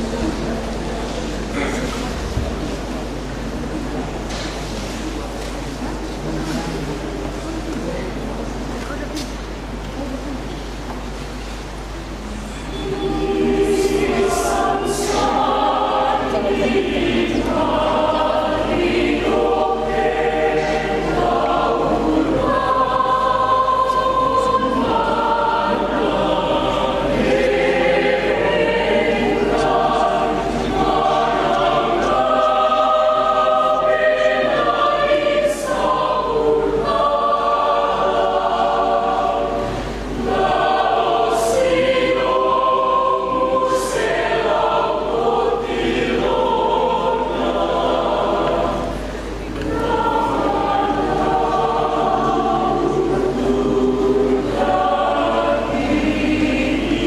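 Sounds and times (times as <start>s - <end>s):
choir singing a hymn: 0.0s - 7.7s, 11.0s - 57.0s.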